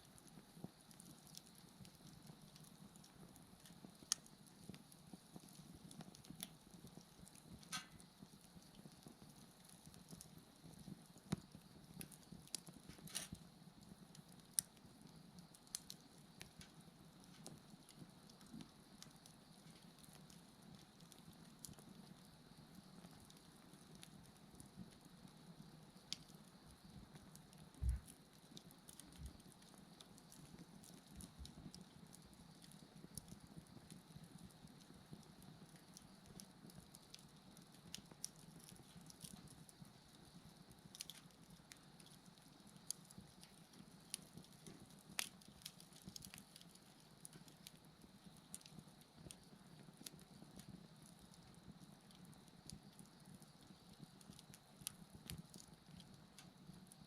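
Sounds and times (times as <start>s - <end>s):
bonfire crackling and popping: 0.0s - 57.0s
low rustle of flames: 0.0s - 57.0s.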